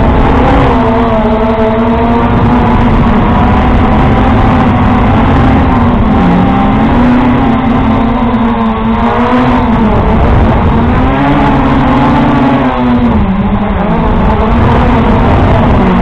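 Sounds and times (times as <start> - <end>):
drone propellers buzzing: 0.0 - 16.0
rushing noise: 0.0 - 16.0.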